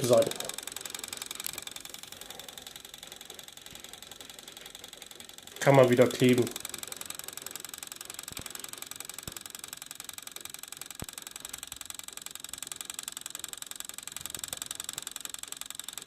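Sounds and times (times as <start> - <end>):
sharp clicks: 0.0 - 16.0
turntable motor rattling: 0.0 - 16.0.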